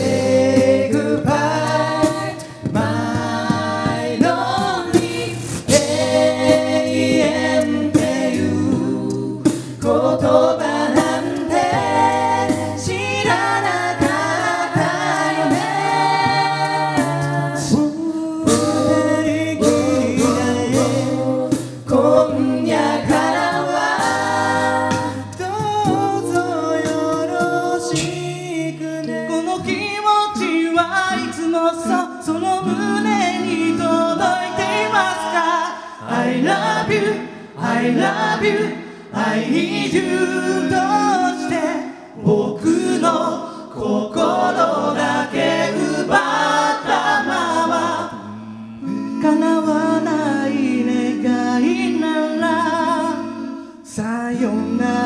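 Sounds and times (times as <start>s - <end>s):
a cappella group singing: 0.0s - 55.0s
vocal percussion beat: 0.0s - 55.0s.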